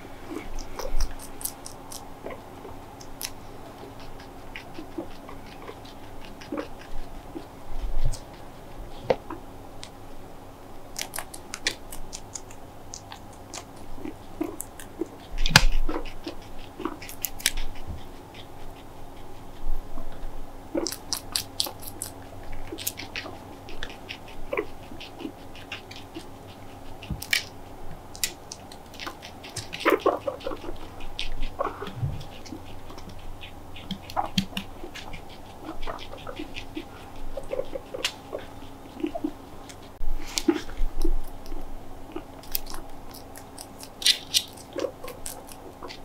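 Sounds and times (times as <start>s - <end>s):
guinea pig crunching food: 0.0s - 46.0s
guinea pig squeaks: 0.0s - 46.0s.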